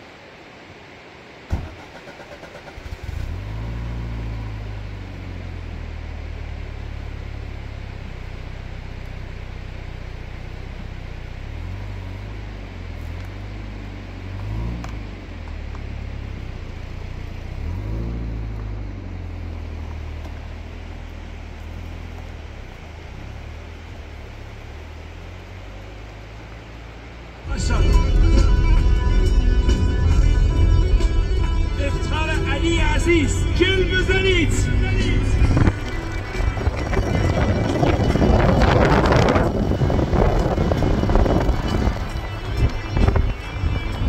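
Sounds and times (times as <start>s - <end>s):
car engine cranking and running: 1.5s - 44.0s
car pulling away: 1.5s - 44.0s.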